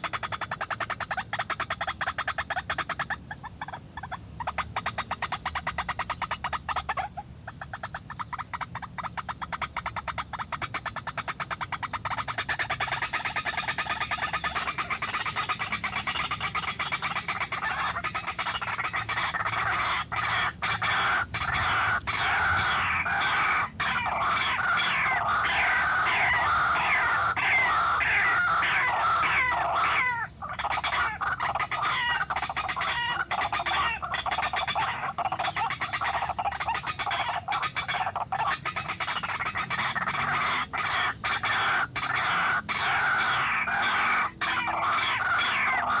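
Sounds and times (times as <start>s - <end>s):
waterhen croaking call: 0.0s - 46.0s.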